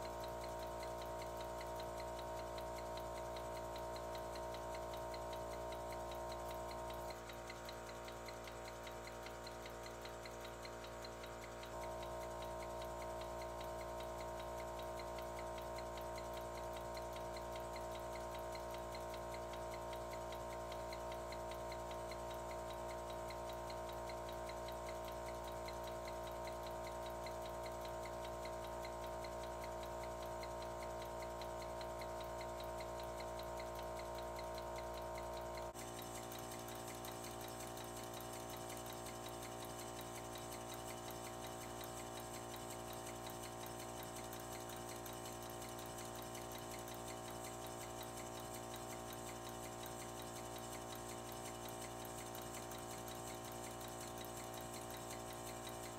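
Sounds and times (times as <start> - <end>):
steam locomotive cylinders ticking: 0.0 - 55.9.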